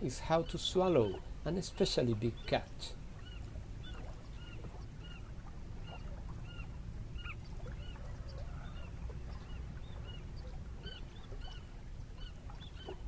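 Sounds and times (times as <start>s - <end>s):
steady low rumble: 0.0s - 12.7s
birds calling: 0.0s - 13.0s.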